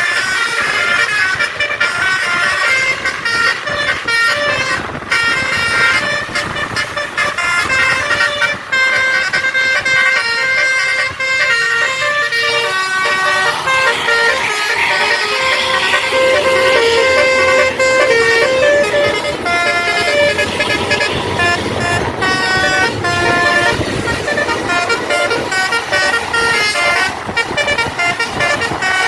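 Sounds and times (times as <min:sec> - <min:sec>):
musical bus air horn: 0:00.0 - 0:29.0
vehicle noise: 0:00.0 - 0:29.0.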